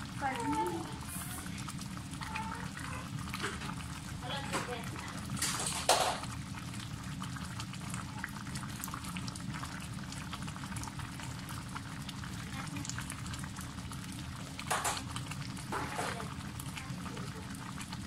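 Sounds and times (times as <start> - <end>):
broth bubbling in a pot: 0.0 - 18.0.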